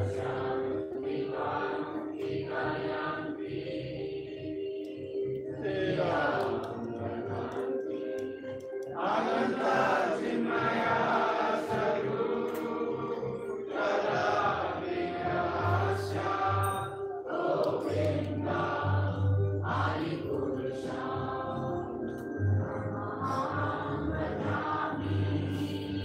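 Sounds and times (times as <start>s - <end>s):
group devotional chanting: 0.0s - 26.0s
instrumental accompaniment: 0.0s - 26.0s.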